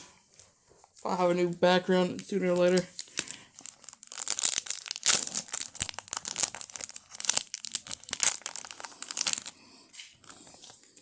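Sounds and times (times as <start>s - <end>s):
foil wrapper crinkling: 0.3s - 11.0s.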